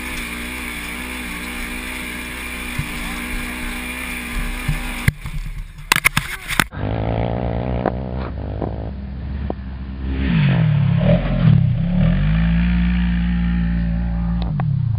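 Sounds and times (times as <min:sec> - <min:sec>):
engine revving: 0:00.0 - 0:14.9.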